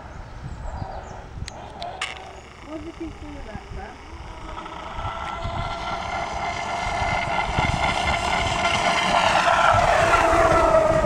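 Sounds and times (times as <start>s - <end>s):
rc boat motor whining: 1.5s - 11.0s.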